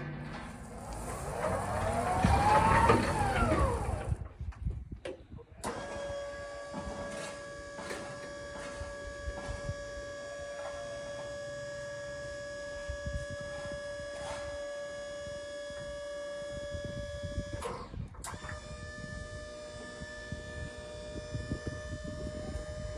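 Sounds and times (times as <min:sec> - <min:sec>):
forklift motor whining: 0:00.0 - 0:04.3, 0:05.6 - 0:22.9
hydraulic pump hum: 0:00.0 - 0:04.7, 0:05.6 - 0:22.9.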